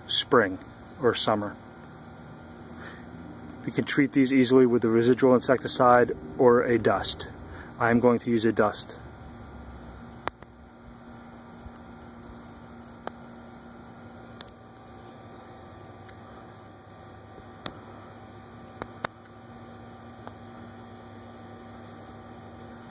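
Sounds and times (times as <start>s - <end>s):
low hum with faint tone: 0.0s - 22.9s.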